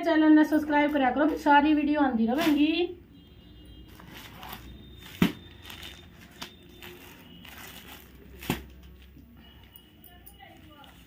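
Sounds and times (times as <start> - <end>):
cloth and wrapping rustling: 0.5 - 2.9, 3.9 - 11.0.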